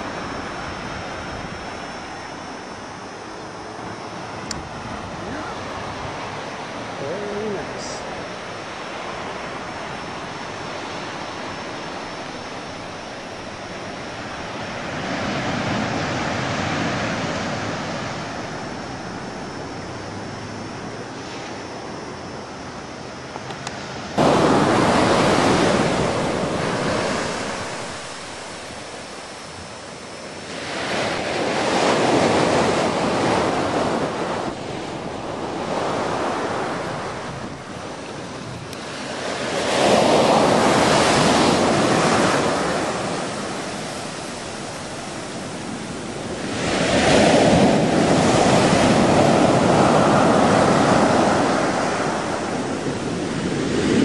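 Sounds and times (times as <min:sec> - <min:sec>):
ocean waves crashing on a beach: 0:00.0 - 0:54.0.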